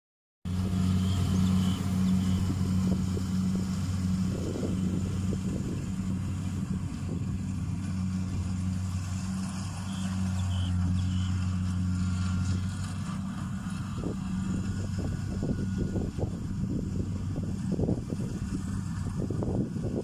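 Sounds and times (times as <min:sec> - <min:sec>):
diesel engine low drone: 0:00.5 - 0:20.0.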